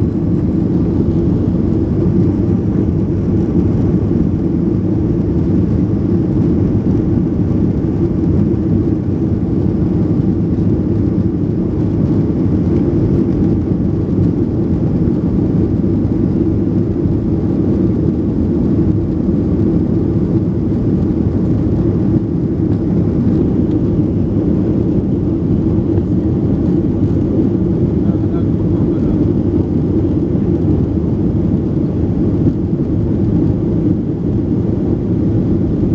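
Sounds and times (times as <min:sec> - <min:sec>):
airplane cabin jet engine drone: 0:00.0 - 0:35.9.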